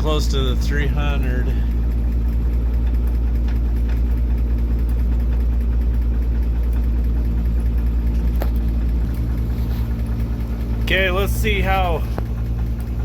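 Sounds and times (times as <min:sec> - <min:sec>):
engine idling: 0:00.0 - 0:13.0
fuel pumping into tank: 0:00.0 - 0:13.0.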